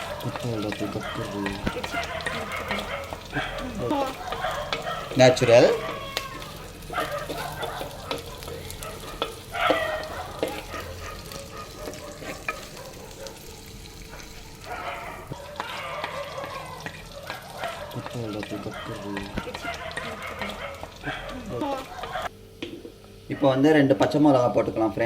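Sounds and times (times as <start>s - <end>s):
spoon scraping a pot: 0.0s - 13.3s, 14.2s - 22.3s
onions sizzling in oil: 0.0s - 25.0s.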